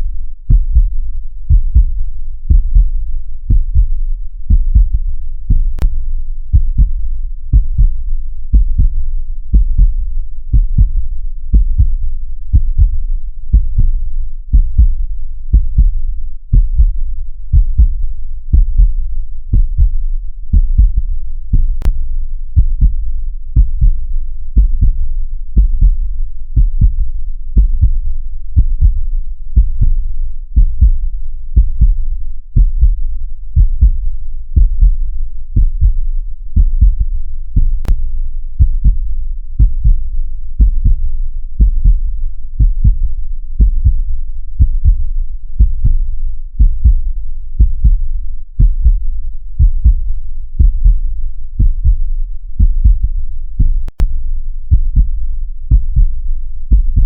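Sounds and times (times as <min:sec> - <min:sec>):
heartbeat thumping: 0:00.5 - 0:05.9, 0:06.5 - 0:22.0, 0:22.6 - 0:23.0, 0:23.6 - 0:24.0, 0:24.6 - 0:25.0, 0:25.6 - 0:26.0, 0:26.6 - 0:28.0, 0:28.6 - 0:30.0, 0:30.6 - 0:31.0, 0:31.6 - 0:32.0, 0:32.6 - 0:33.0, 0:33.6 - 0:34.0, 0:34.6 - 0:38.0, 0:38.6 - 0:39.0, 0:39.6 - 0:54.1, 0:54.7 - 0:57.0.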